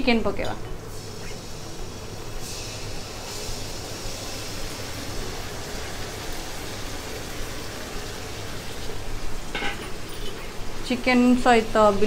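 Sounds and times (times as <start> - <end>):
chicken sizzling in hot oil: 0.9 - 12.0.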